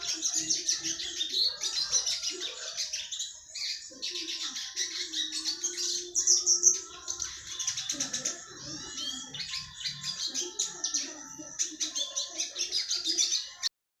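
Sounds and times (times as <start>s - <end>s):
songbird chirping and trilling: 0.0s - 13.7s.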